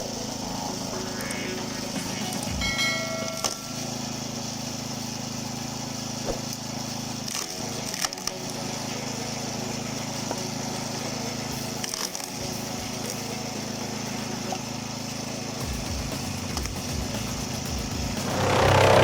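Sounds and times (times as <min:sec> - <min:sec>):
log splitter engine running: 0:00.0 - 0:19.0.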